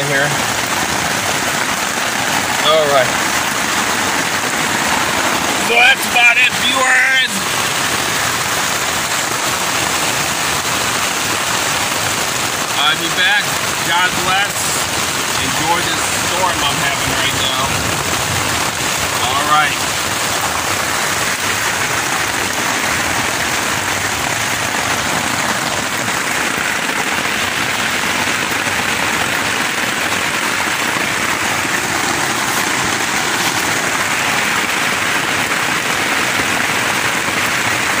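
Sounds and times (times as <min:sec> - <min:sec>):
rain pattering on a tent: 0:00.0 - 0:38.0.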